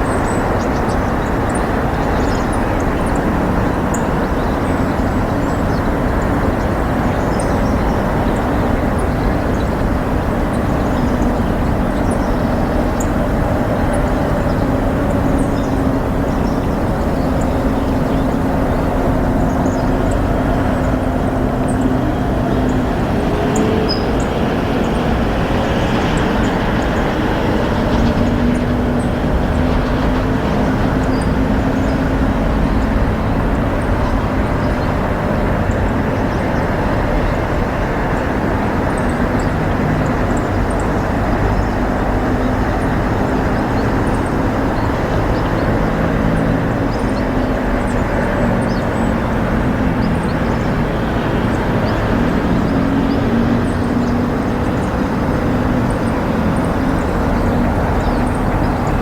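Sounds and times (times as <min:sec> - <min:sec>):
engine hum: 0:00.0 - 0:59.0
road traffic rumble: 0:00.0 - 0:59.0
small birds chirping: 0:00.0 - 0:59.0.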